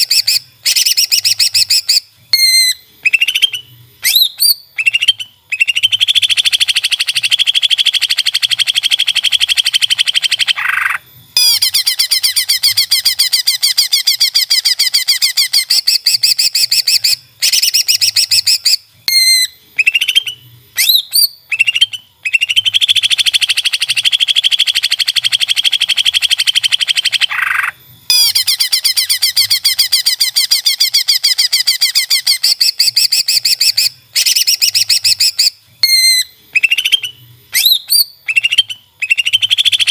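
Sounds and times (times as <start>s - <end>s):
songbird singing rattling trills: 0.0s - 39.9s.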